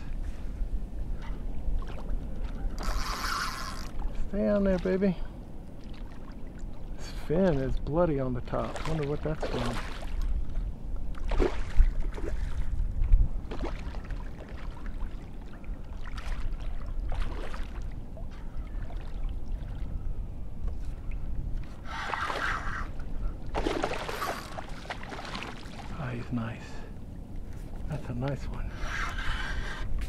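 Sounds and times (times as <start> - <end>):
water splashing and trickling: 1.1 - 20.0, 20.7 - 28.5.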